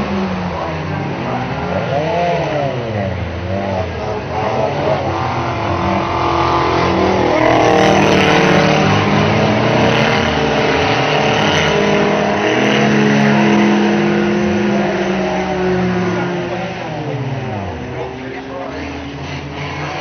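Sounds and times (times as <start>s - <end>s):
racing car engines revving: 0.0s - 20.0s.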